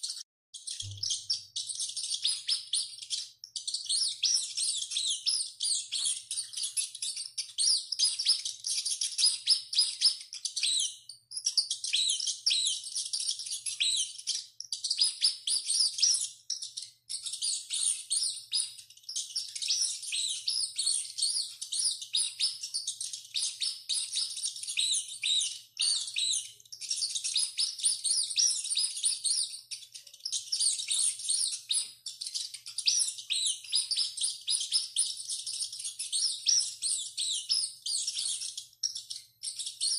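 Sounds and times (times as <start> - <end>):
rats squeaking: 0.0 - 39.9.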